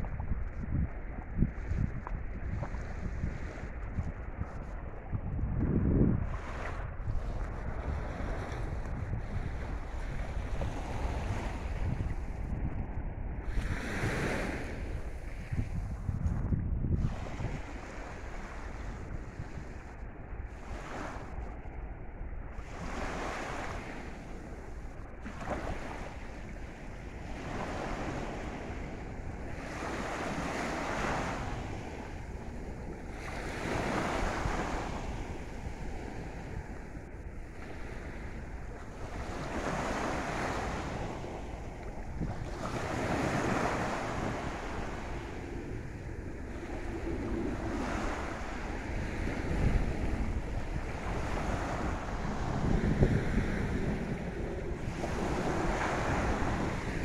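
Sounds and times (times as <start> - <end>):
small waves washing ashore: 0.0 - 57.0
wind rumbling on microphone: 0.0 - 57.0.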